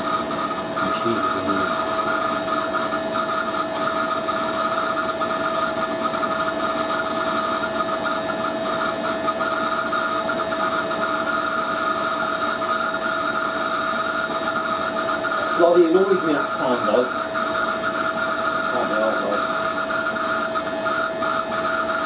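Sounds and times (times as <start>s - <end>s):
high screech of motor bearings: 0.0s - 22.0s
washing machine spinning whine: 0.0s - 22.0s.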